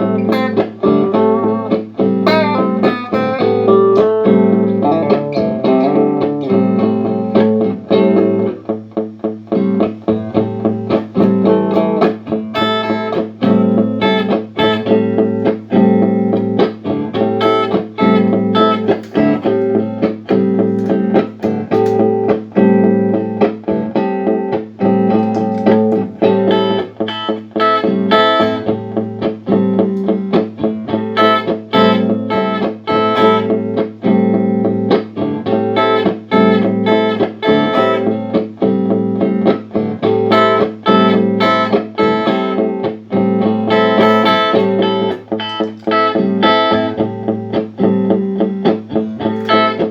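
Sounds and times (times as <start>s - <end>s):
guitar picking: 0.0s - 49.9s
looped guitar phrase: 0.0s - 49.9s.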